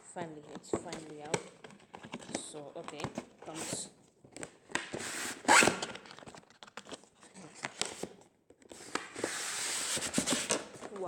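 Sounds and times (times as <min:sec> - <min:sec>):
packaging rustling and crinkling: 0:00.6 - 0:11.0.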